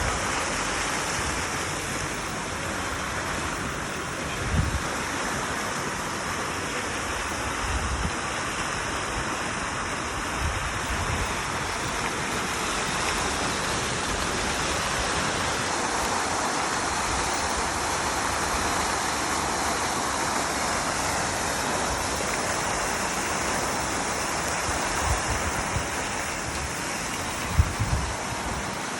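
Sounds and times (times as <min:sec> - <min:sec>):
water fountain splashing: 0:00.0 - 0:28.9.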